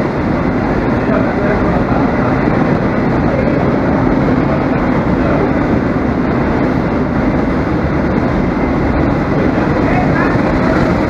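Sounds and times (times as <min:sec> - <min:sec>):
steady rumble and hiss: 0:00.0 - 0:11.0.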